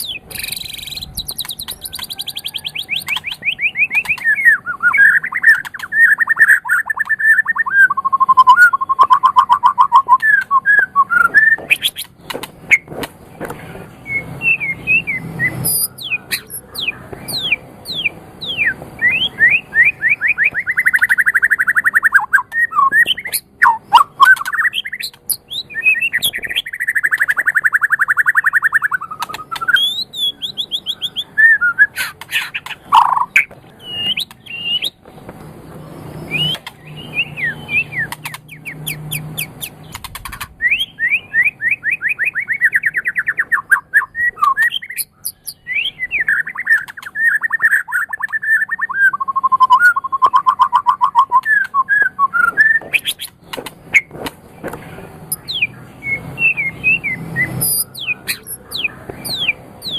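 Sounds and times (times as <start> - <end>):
songbird singing varied whistles: 0.0 - 12.9, 14.0 - 35.0, 36.2 - 54.1, 55.3 - 59.9.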